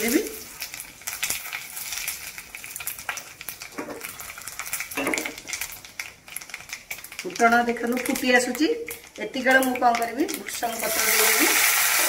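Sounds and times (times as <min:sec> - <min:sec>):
oil sizzling: 0:00.0 - 0:12.0
seeds popping in hot oil: 0:00.0 - 0:12.0.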